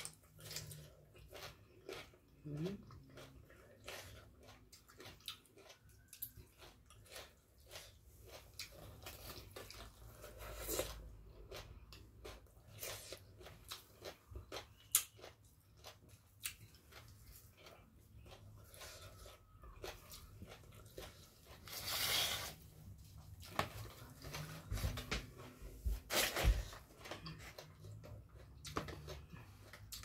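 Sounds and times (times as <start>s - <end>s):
chewing with wet smacks: 0.0s - 21.9s, 26.7s - 30.0s.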